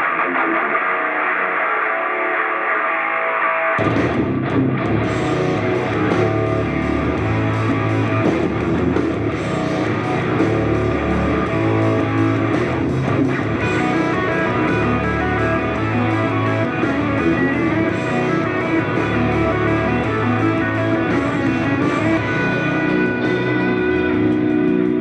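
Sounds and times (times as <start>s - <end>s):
guitar rock music on speakers: 0.0s - 25.0s.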